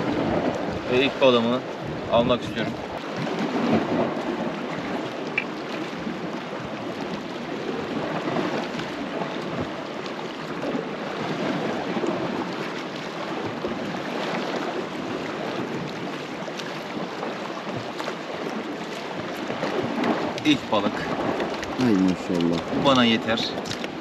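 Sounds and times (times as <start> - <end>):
sea waves washing against rocks: 0.0 - 24.0.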